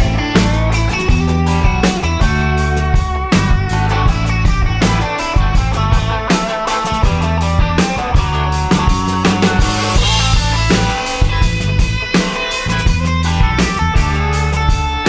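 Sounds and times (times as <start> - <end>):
bass drum: 0.0 - 15.0
bass guitar: 0.0 - 15.0
electric guitar: 0.0 - 15.0.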